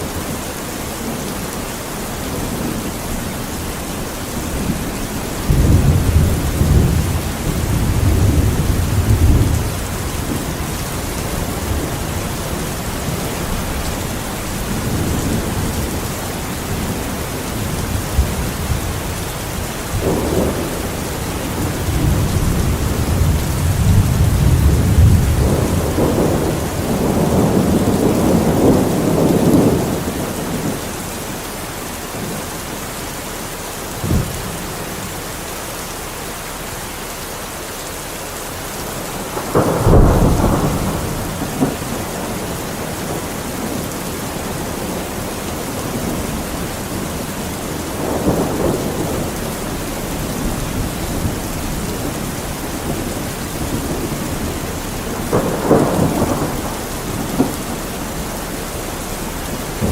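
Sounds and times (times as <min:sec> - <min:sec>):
thunder rumbling: 0:00.0 - 0:31.5, 0:33.1 - 0:35.4, 0:38.5 - 0:59.9
steady rain falling: 0:00.0 - 0:59.9.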